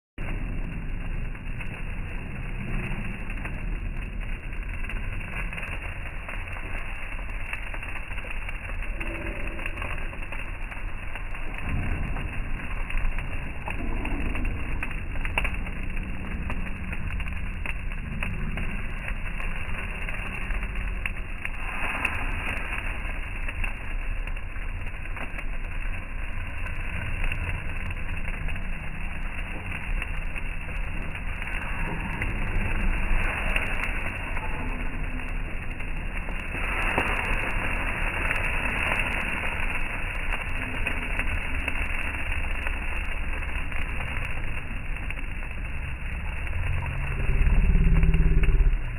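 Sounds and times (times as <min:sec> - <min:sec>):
meat sizzling: 0:00.2 - 0:48.9.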